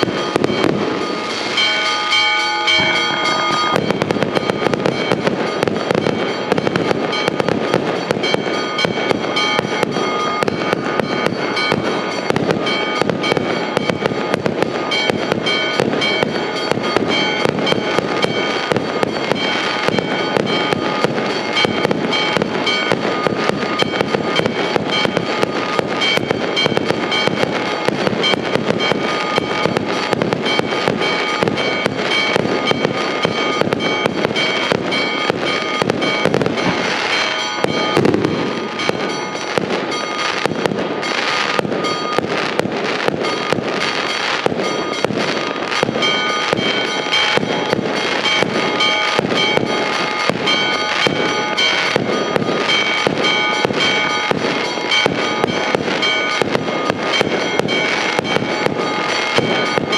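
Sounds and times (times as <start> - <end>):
fireworks bursting and crackling: 0.0 - 59.9
steady ringing tones: 0.0 - 59.9.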